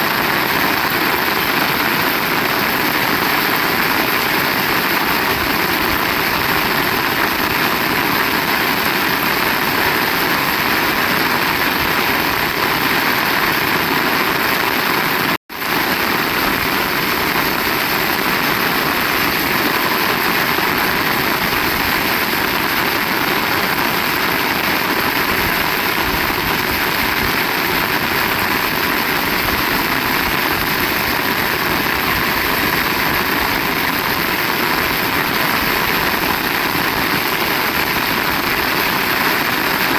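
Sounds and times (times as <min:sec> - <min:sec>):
heavy rain in strong wind: 0:00.0 - 0:39.9.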